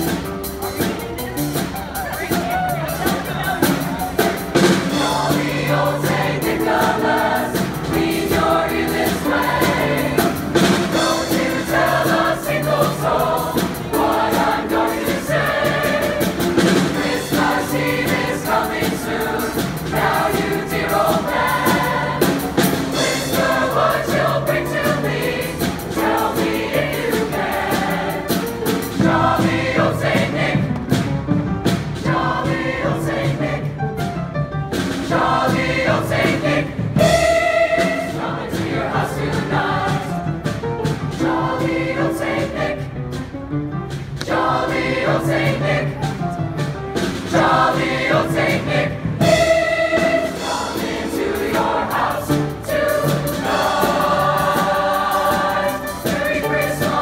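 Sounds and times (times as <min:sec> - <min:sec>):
mixed choir singing: 0:03.0 - 0:31.2, 0:31.8 - 0:33.9, 0:35.0 - 0:43.2, 0:44.1 - 0:57.0.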